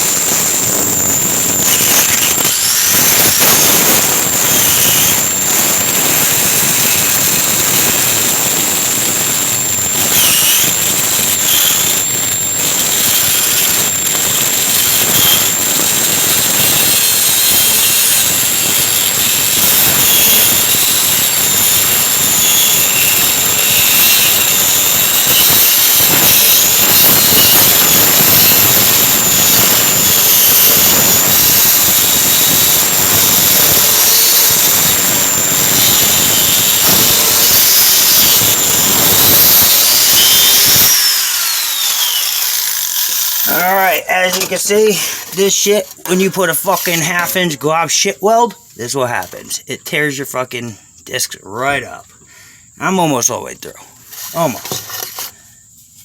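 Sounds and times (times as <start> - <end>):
angle grinder grinding metal: 0.0 - 49.6, 54.0 - 55.4.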